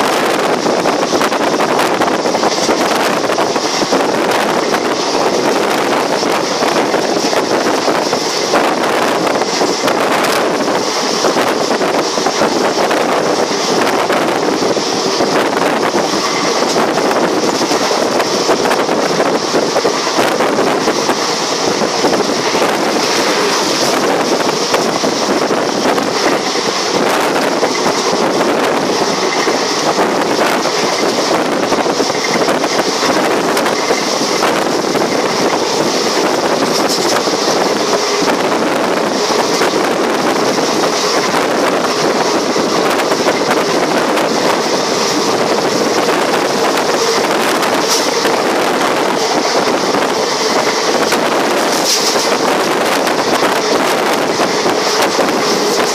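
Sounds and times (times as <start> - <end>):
moving train running noise: 0.0 - 55.9
wind buffeting microphone: 0.0 - 55.9.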